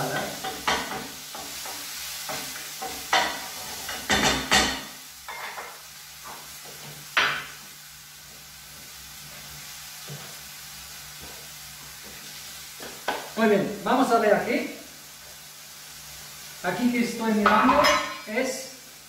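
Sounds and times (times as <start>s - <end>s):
vegetables sizzling in frying pan: 0.0s - 19.0s.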